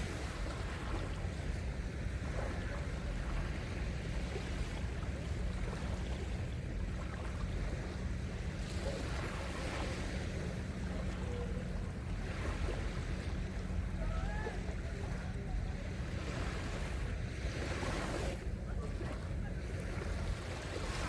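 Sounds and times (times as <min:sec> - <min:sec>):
sea surf on a beach: 0:00.0 - 0:21.0
wind rumbling on microphone: 0:00.0 - 0:21.0
faint distant voices: 0:00.1 - 0:21.0.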